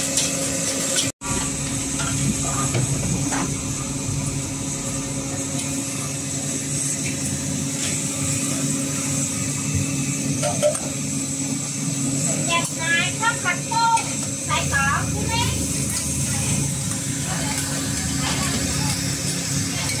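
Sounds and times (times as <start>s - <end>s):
machine hum with high hiss: 0.0s - 20.0s.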